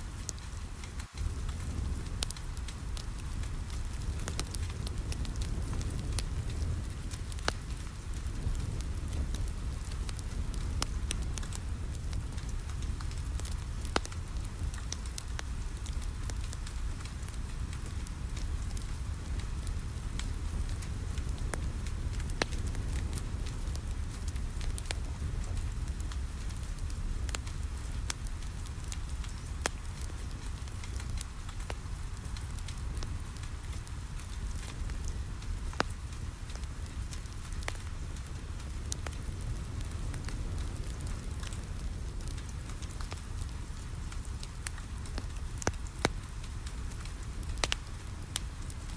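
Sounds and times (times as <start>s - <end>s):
soft hiss of rain: 0.0s - 48.9s
wood fire crackling: 0.0s - 48.9s.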